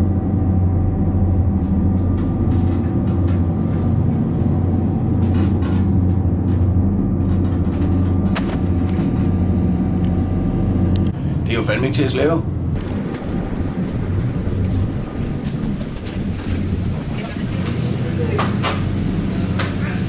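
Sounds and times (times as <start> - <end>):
boat engines droning: 0.0 - 20.0.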